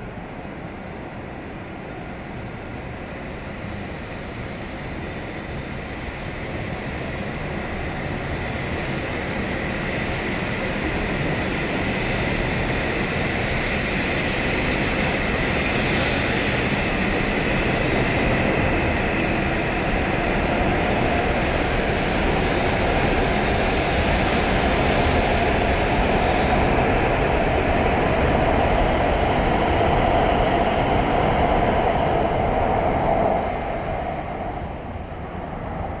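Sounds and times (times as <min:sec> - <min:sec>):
high-speed train running noise and whine: 0:00.0 - 0:36.0.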